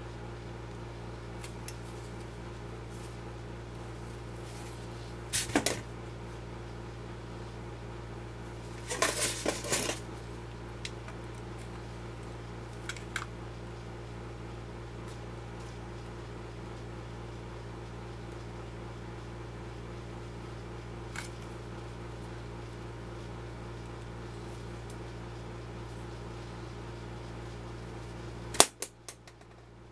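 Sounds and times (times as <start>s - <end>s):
electrical hum: 0.0s - 29.9s.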